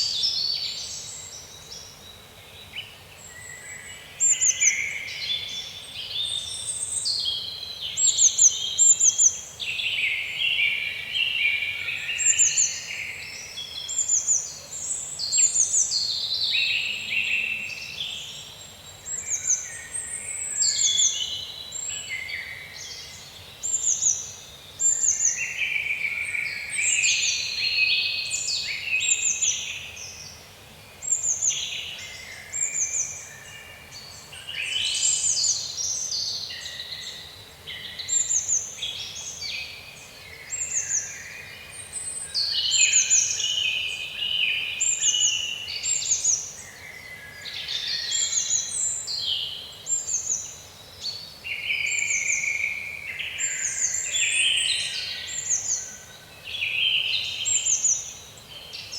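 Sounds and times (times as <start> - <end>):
faint steady hiss: 0.0 - 58.9
songbirds singing: 0.0 - 58.9.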